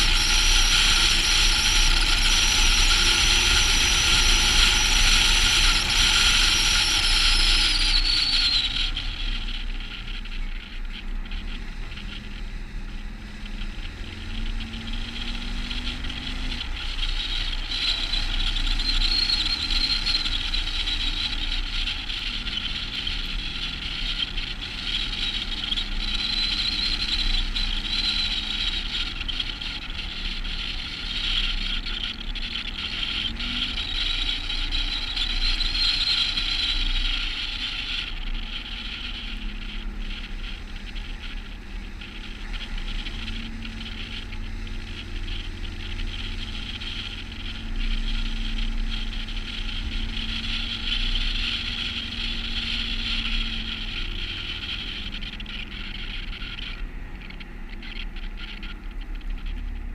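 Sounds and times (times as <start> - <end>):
wind: 0.0 - 59.9.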